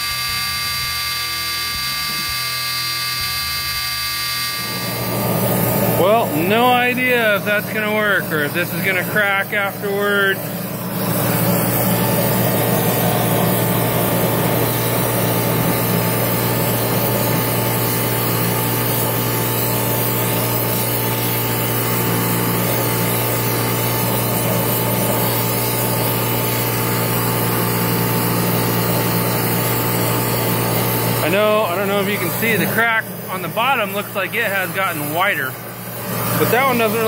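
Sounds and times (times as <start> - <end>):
welding arc hissing: 0.0 - 37.0.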